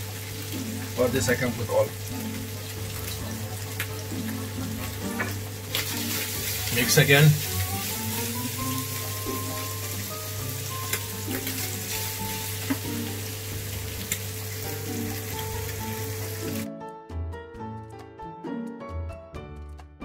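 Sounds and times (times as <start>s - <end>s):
meat sizzling in a frying pan: 0.0s - 16.7s
soft music: 0.0s - 20.0s.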